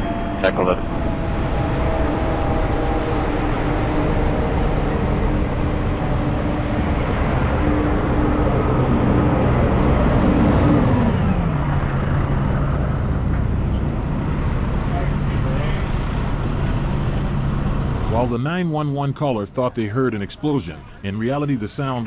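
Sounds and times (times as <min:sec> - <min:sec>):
engine hum: 0:00.0 - 0:19.6
street traffic: 0:00.0 - 0:22.0.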